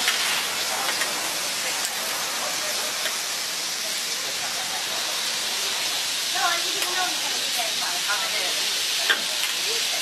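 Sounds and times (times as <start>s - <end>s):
sausages sizzling on griddle: 0.0s - 10.0s.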